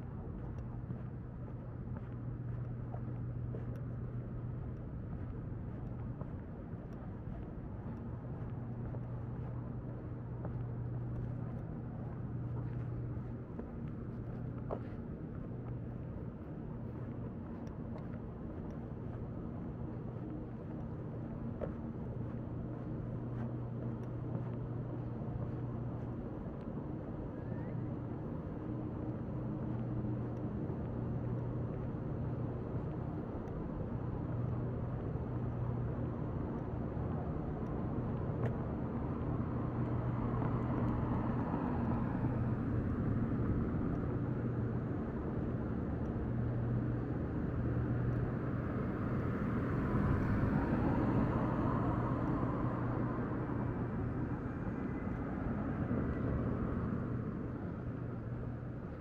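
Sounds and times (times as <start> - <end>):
low mechanical hum: 0.0 - 59.0
outdoor background noise: 0.0 - 59.0.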